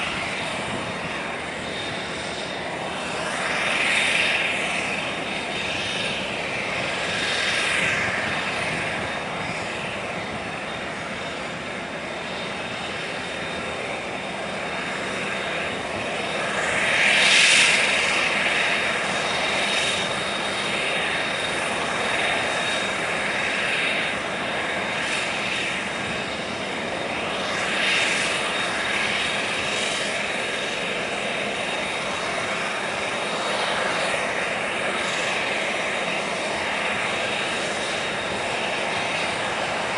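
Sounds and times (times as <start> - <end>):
turbine engine whining: 0.0 - 39.9.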